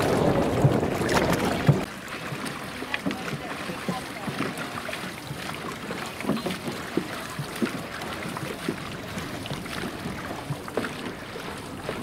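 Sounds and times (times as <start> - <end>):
paddles splashing water: 0.0 - 12.0
water washing: 0.0 - 12.0.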